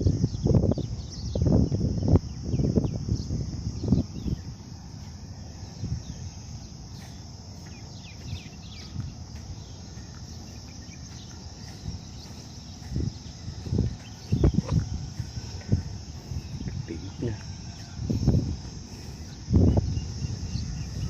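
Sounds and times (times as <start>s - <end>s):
insect chorus buzzing: 0.0s - 21.0s.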